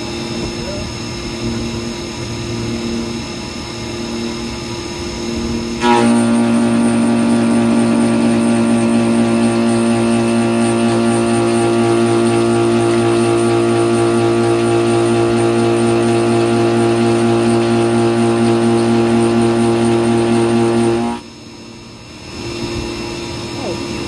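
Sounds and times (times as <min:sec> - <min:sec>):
mill cutting steel: 0:00.0 - 0:21.3.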